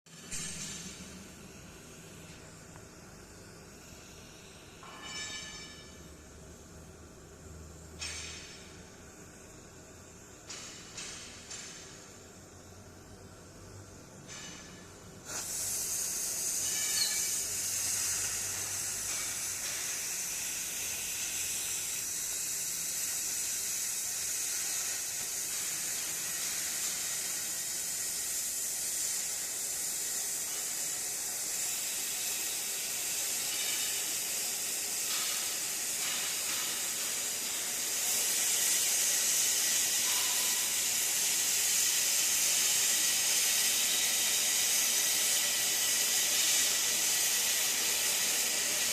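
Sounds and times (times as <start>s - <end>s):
gas cutting torch hissing: 0.2s - 6.0s, 7.5s - 48.9s.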